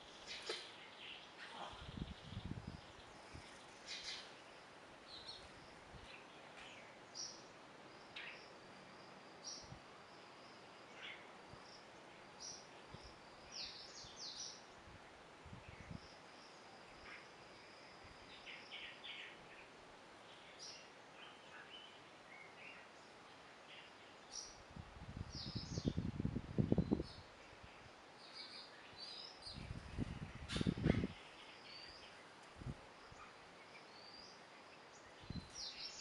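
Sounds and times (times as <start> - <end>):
faint background hiss: 0.0 - 36.0.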